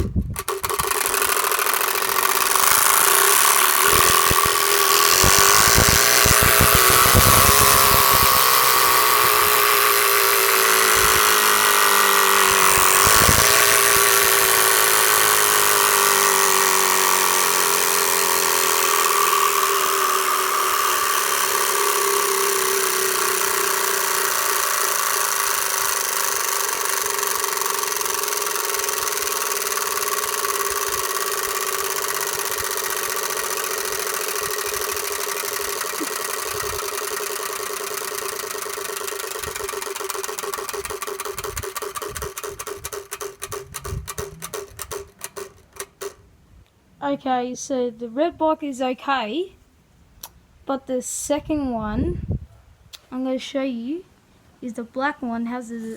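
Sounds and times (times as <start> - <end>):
motorbike engine running: 0.0 - 46.2.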